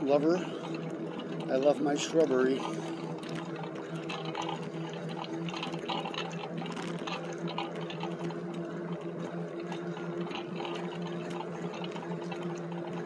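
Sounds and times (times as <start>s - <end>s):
electric motor humming: 0.0s - 13.0s
small rattling clicks: 0.6s - 13.0s.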